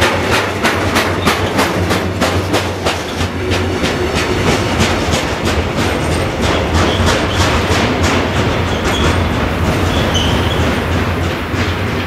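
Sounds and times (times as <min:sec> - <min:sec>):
train low rumble: 0:00.0 - 0:12.0
train wheels clattering over joints: 0:00.0 - 0:12.0.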